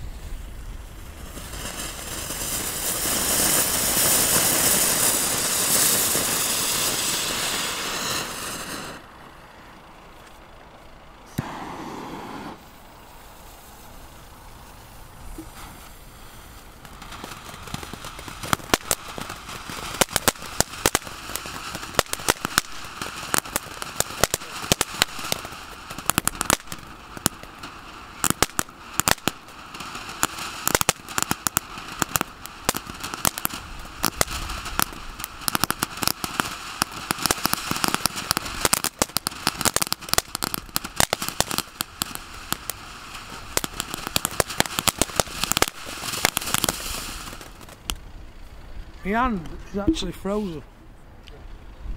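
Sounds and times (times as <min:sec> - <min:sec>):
firework crackling: 0:00.0 - 0:50.7
firework fountain hissing: 0:00.0 - 0:50.7.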